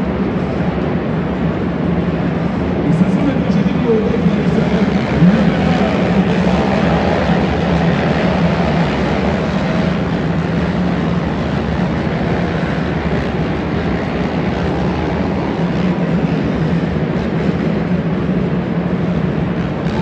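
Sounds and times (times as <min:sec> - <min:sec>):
quad bike engines droning: 0:00.0 - 0:20.0.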